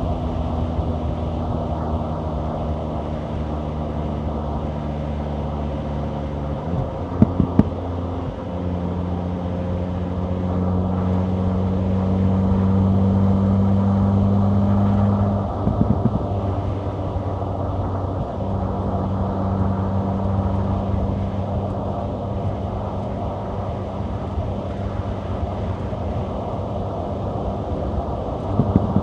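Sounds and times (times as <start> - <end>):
car engine hum: 0.0 - 29.0
road and tyre noise: 0.0 - 29.0.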